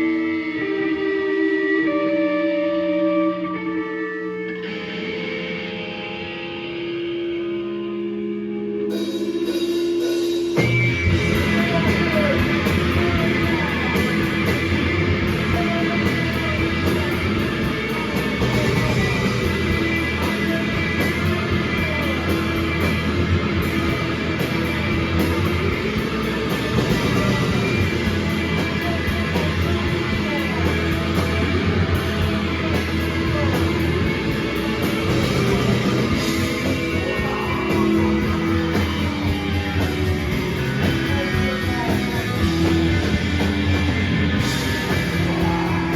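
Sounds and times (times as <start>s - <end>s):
distorted guitar holding notes: 0.0s - 45.9s
live rock band playing: 0.0s - 45.9s.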